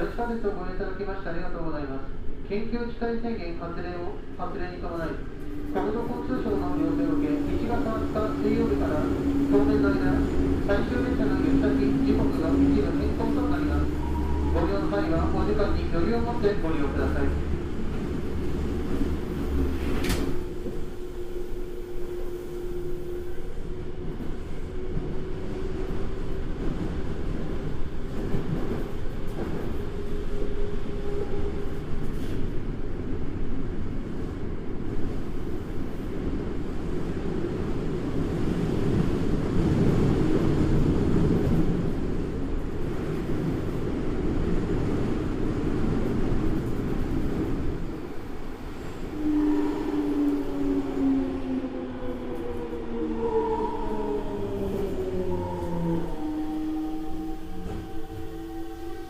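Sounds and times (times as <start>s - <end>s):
subway motor whine: 5.2s - 34.3s, 35.9s - 59.0s.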